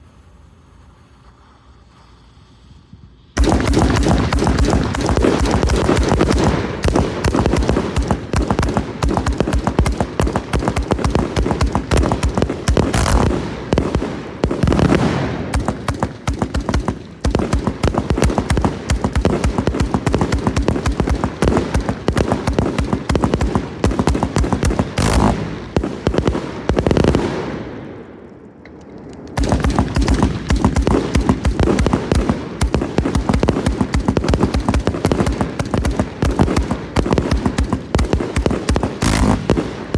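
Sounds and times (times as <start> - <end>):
fireworks firing rapid shots: 3.4 - 28.2, 29.4 - 39.9.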